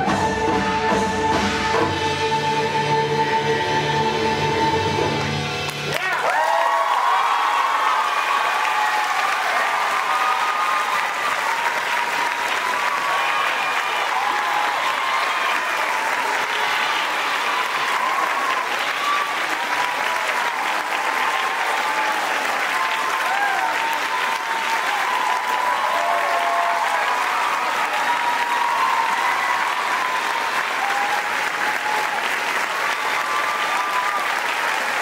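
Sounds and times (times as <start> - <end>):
audience applauding: 5.1 - 35.0
cheers and whoops: 5.9 - 35.0.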